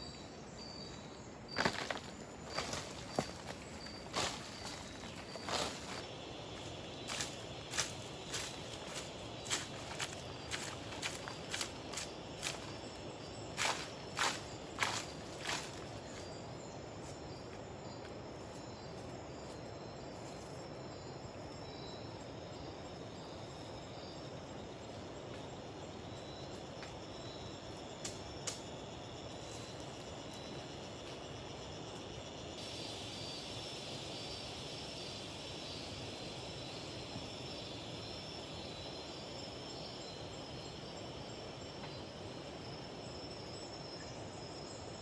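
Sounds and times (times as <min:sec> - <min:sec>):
background hiss: 0:00.0 - 0:45.0
insects chirping: 0:00.0 - 0:45.0.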